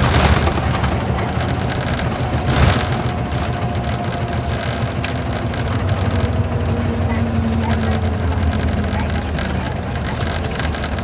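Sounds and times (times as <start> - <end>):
coach diesel engine running: 0.0 - 11.0
road noise: 0.0 - 11.0.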